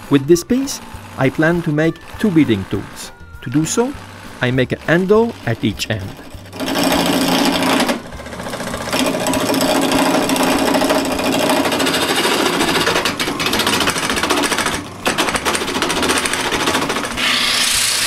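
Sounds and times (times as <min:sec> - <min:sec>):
lathe motor hum: 0:00.0 - 0:18.0.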